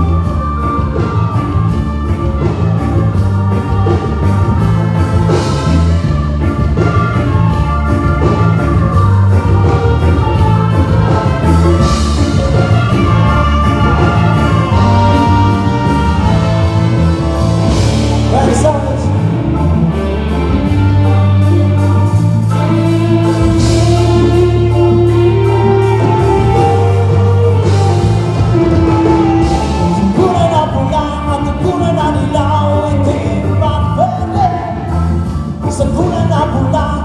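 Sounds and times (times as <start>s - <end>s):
band playing: 0.0s - 37.0s
singer over pa: 0.0s - 37.0s.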